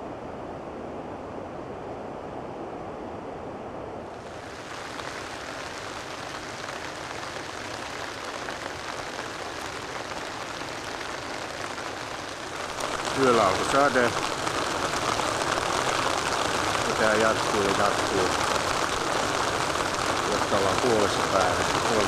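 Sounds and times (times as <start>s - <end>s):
rain hissing on a surface: 4.1s - 22.0s
rushing water: 4.1s - 22.0s.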